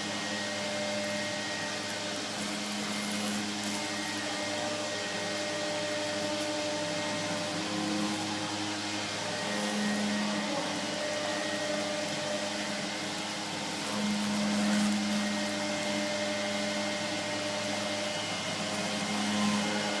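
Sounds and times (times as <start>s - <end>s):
router spindle hissing and humming: 0.0s - 20.0s.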